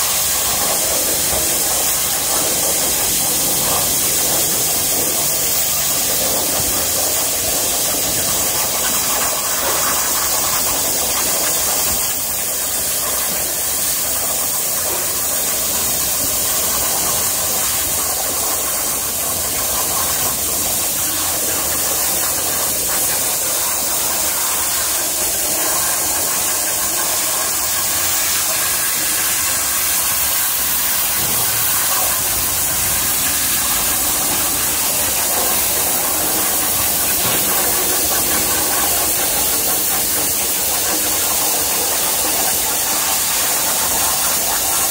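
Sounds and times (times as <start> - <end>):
cutting torch hissing: 0.0 - 44.9.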